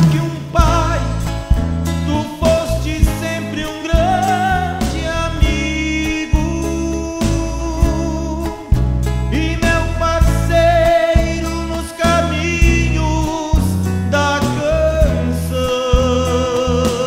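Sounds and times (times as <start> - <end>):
guitar and bass accompaniment: 0.0 - 17.0.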